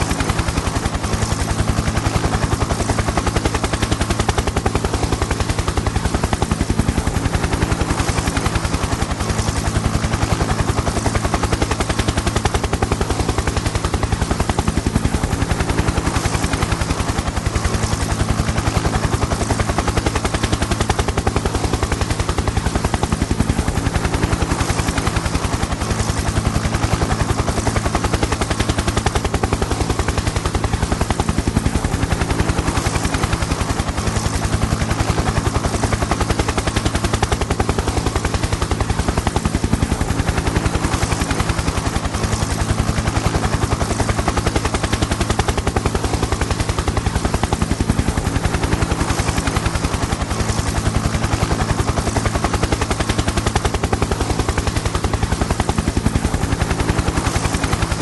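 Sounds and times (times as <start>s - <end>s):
helicopter rotor chopping: 0.0s - 58.0s.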